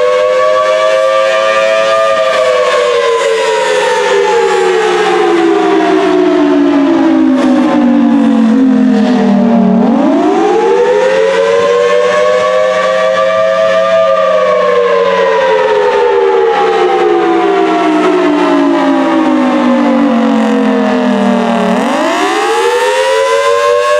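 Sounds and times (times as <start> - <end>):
two-tone tornado siren: 0.0 - 23.9.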